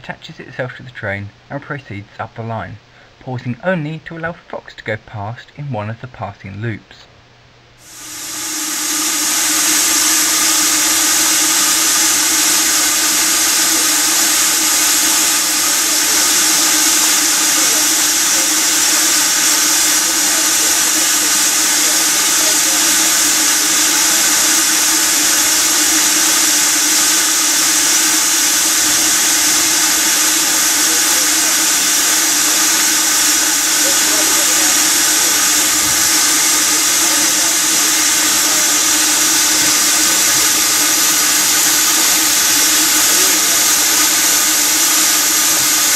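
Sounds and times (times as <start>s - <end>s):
steam locomotive hissing: 7.8s - 45.9s.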